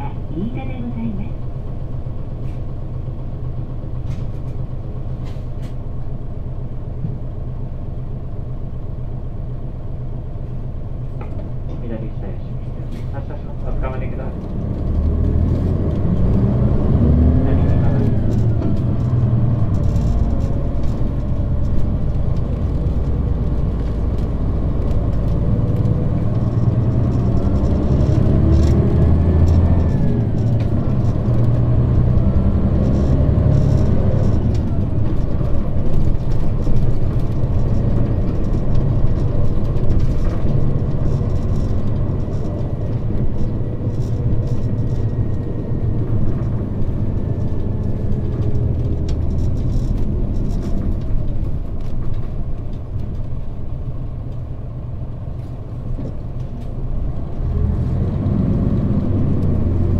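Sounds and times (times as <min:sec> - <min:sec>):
diesel bus engine pulling away: 0:00.0 - 0:59.9.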